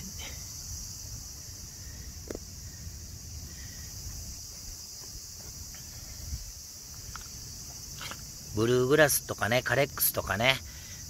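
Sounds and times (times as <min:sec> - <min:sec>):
insects singing: 0:00.0 - 0:11.0.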